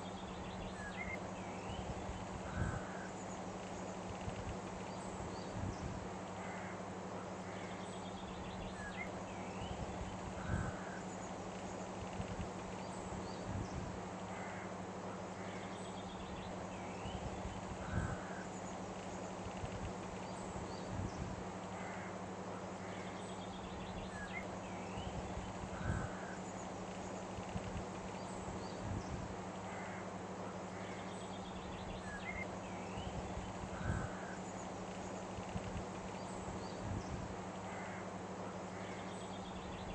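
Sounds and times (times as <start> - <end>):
low hum and hiss: 0.0 - 39.9.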